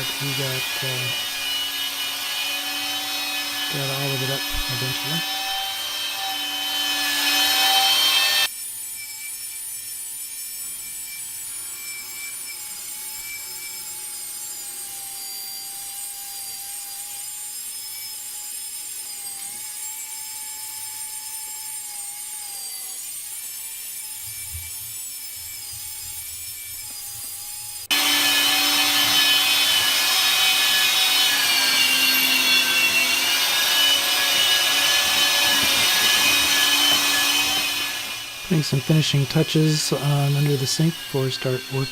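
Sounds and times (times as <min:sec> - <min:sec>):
wet vacuum motor whining: 0:00.0 - 0:08.5, 0:11.6 - 0:41.9.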